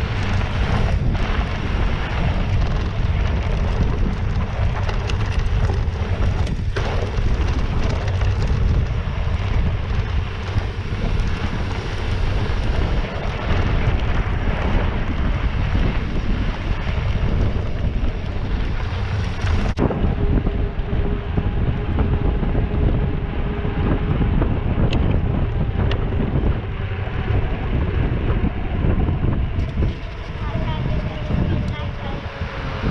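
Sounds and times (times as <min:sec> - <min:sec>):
dull rumble: 0:00.0 - 0:32.9
wind buffeting microphone: 0:00.0 - 0:32.9.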